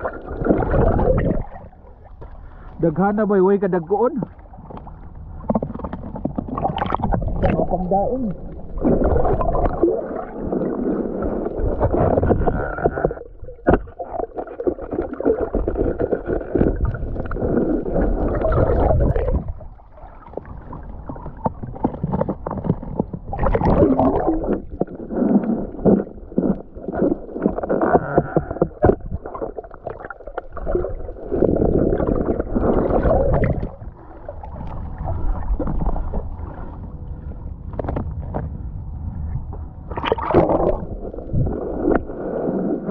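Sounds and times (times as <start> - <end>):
muffled water sloshing: 0.0 - 42.9.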